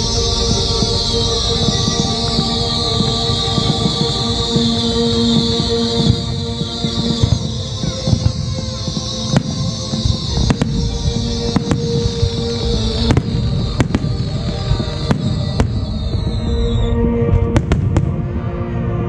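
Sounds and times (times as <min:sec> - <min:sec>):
firework shells bursting: 0:00.0 - 0:16.8
firework crackling hiss: 0:00.0 - 0:17.0.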